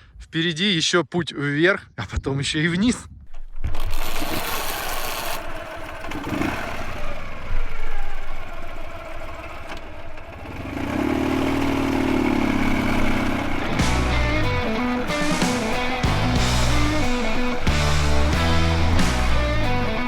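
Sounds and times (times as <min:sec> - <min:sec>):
engine clatter: 0:03.7 - 0:20.0
motorcycle engine revving: 0:03.7 - 0:20.0.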